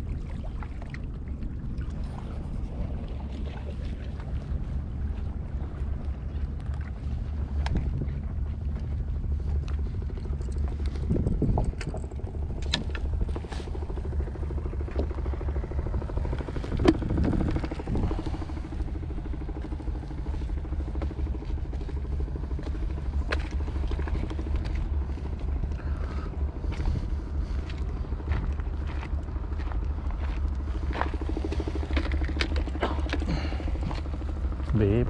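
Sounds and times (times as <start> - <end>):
low rumble of camera handling: 0.8 - 34.8.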